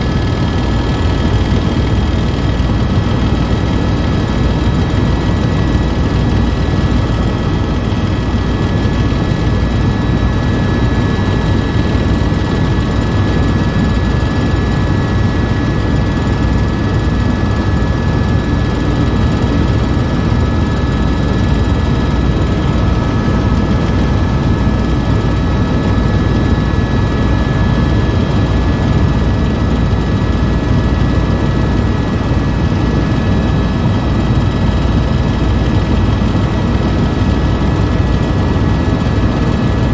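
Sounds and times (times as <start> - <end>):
helicopter rotor rumble: 0.0 - 39.9
high-pitched engine whine: 0.0 - 39.9.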